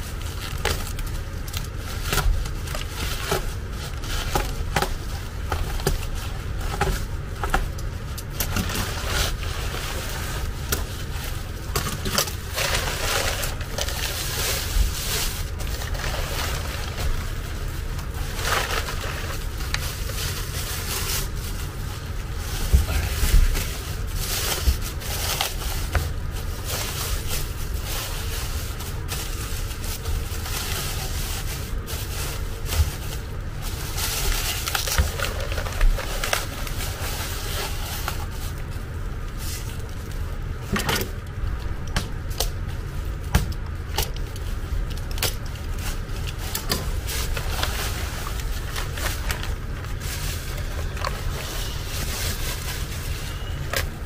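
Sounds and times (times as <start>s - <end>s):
bubble wrap and plastic rustling: 0.0s - 54.0s.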